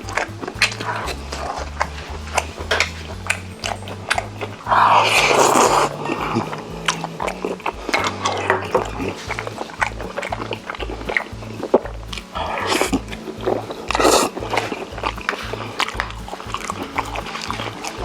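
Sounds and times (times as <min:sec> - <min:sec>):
loud noisy mouth sound: 0:00.0 - 0:18.0
low background music: 0:00.0 - 0:18.0
wet chewing and mouth clicks: 0:00.0 - 0:18.0.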